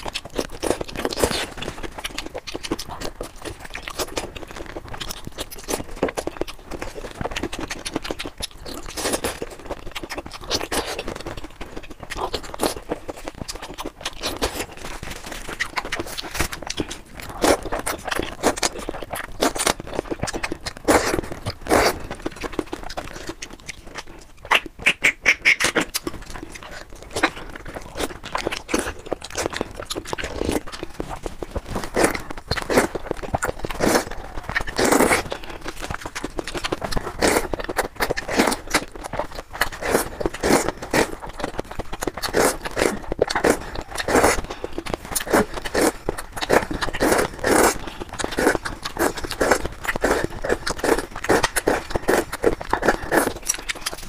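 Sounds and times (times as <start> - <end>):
noodles being slurped: 0.0 - 54.0
wet chewing and smacking: 0.0 - 54.0.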